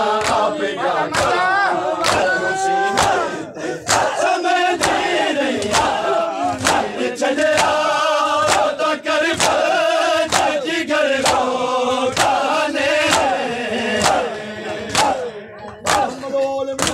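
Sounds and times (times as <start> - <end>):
crowd of men chanting: 0.0 - 16.9
hands slapping chests: 0.2 - 0.5, 1.1 - 1.4, 2.0 - 10.6, 11.2 - 11.5, 12.1 - 16.2.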